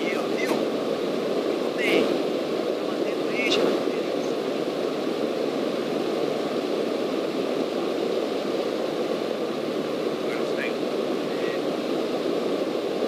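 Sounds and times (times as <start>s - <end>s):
small plane cabin noise: 0.0s - 13.0s.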